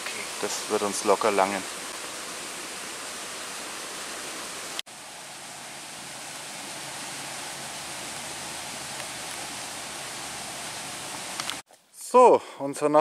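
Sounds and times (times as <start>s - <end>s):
flowing water rushing: 0.0s - 11.6s.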